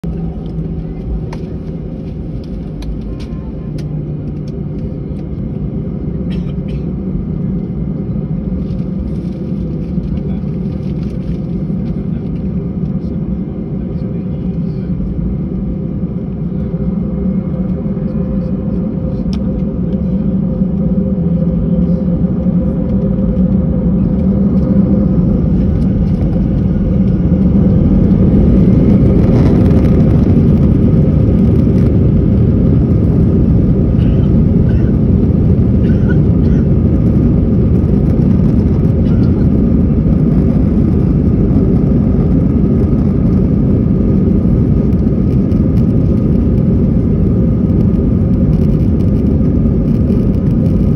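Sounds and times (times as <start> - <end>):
jet engines rumbling from cabin: 0.0 - 50.9.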